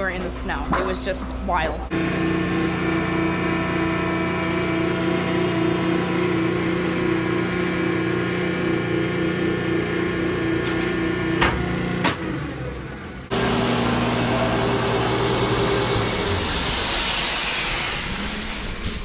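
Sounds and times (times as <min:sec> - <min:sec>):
motor humming: 0:01.9 - 0:19.0.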